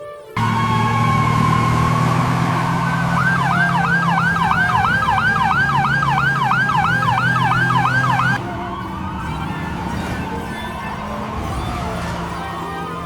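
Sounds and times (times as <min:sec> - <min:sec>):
emergency siren yelping: 0:00.4 - 0:13.0
low engine hum: 0:00.4 - 0:13.0.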